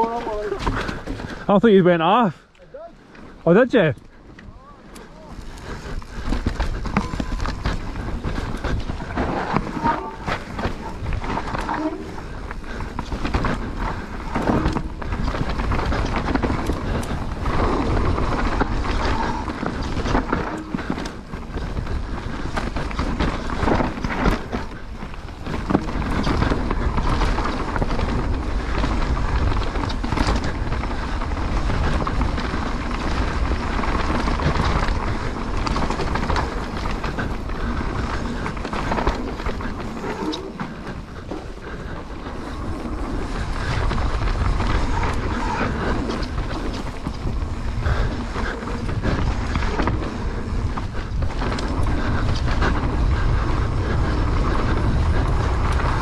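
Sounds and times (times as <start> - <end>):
bike tyres rolling on dirt: 0.0 - 56.0
wind buffeting microphone: 2.8 - 56.0
bike knocks and rattles: 5.8 - 56.0.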